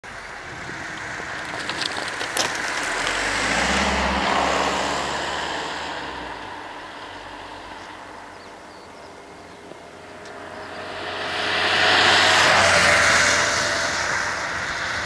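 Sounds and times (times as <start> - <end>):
car passing on asphalt: 0.1 - 15.0.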